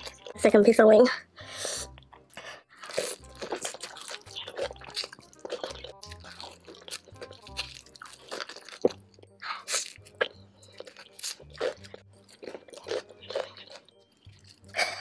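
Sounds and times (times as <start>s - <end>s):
crunching and chewing: 0.0s - 0.4s, 2.0s - 15.0s.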